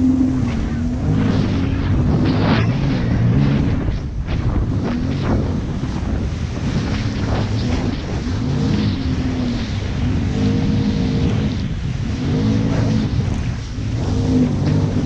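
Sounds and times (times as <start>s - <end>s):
jet ski engine revving: 0.0s - 6.0s, 6.6s - 15.0s
wind and water rushing: 0.0s - 15.0s.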